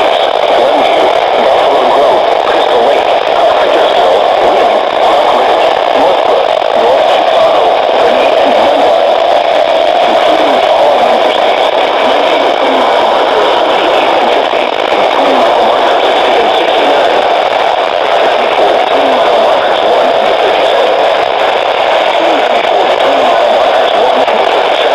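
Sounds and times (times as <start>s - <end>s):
radio static hiss: 0.0s - 24.9s.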